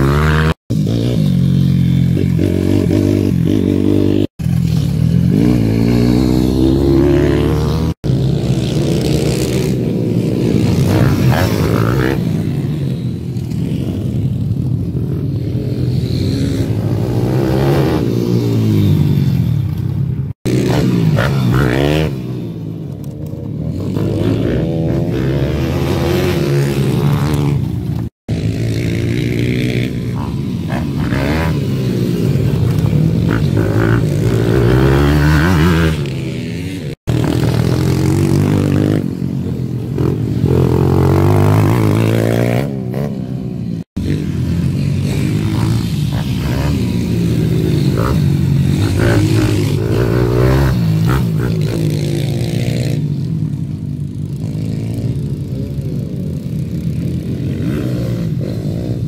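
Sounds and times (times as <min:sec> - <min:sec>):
pit bike engines revving: 0:00.0 - 0:59.0.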